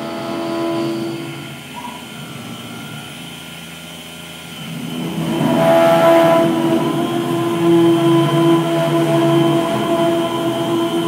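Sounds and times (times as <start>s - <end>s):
milling machine whine: 0.0s - 11.0s.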